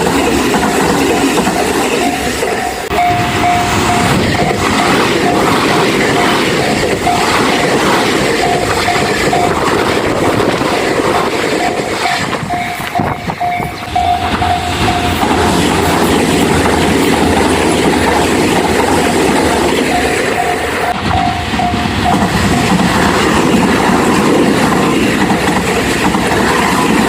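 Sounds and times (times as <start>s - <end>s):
crossing warning bell ringing: 0.0s - 25.8s
train wheels clacking over rails: 0.0s - 27.0s.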